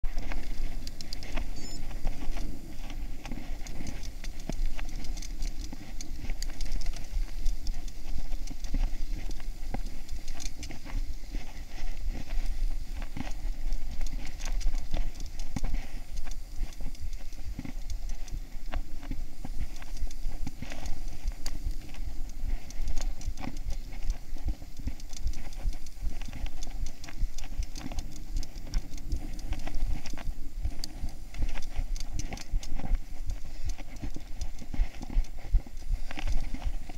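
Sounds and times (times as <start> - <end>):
bike tyres on dirt and stones: 0.0 - 36.9
wind rumble on microphone: 0.0 - 36.9
bike clicks and rattles: 0.1 - 36.9.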